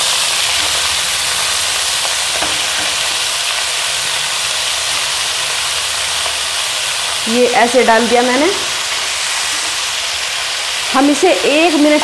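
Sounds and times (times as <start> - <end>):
spinach sizzling in hot oil: 0.0 - 12.0.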